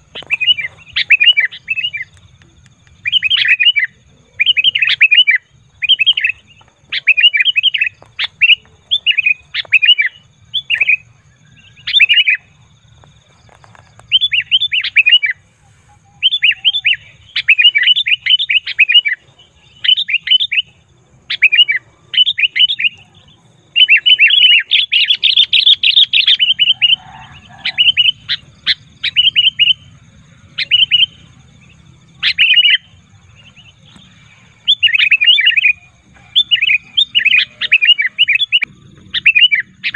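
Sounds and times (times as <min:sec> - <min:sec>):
bulbul chattering calls: 0:00.0 - 0:02.3, 0:03.0 - 0:12.6, 0:13.4 - 0:39.9.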